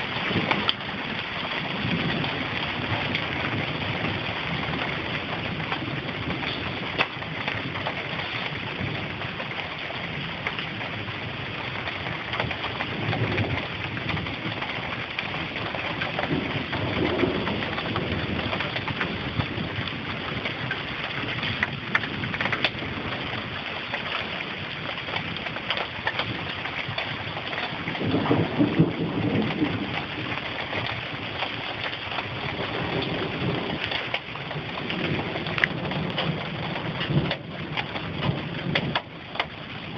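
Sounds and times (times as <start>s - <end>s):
raindrops ticking on surfaces: 0.0s - 39.9s
steady rain: 0.0s - 39.9s
thunder rumbling: 0.0s - 39.9s.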